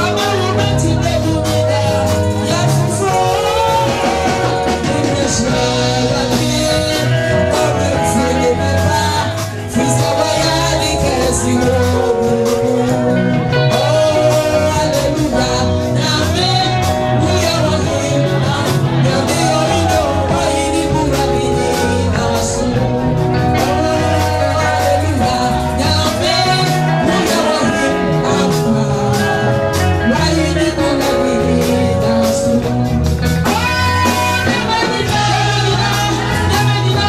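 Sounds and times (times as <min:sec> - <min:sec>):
upbeat praise music with singing: 0:00.0 - 0:37.0.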